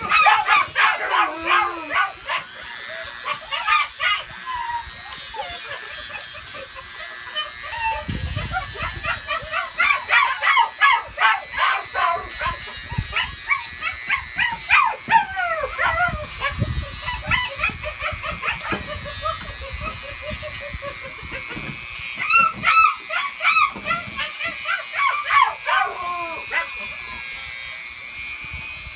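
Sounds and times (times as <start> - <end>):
puppy yelping and whining: 0.0 - 27.1
rotary tool whirring: 0.0 - 28.9.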